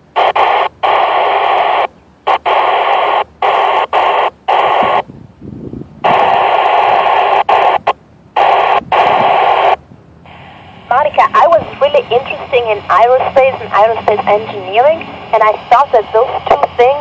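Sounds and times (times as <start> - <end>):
radio static bursts: 0.0 - 5.1, 6.0 - 17.0.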